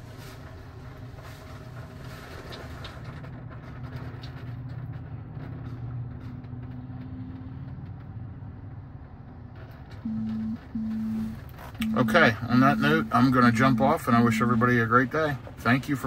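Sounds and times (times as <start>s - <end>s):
car wash spray and machinery rumble: 0.0s - 16.0s.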